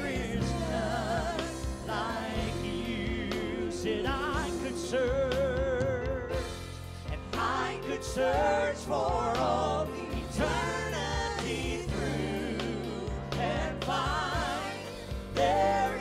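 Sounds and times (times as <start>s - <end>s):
band accompaniment: 0.0s - 16.0s.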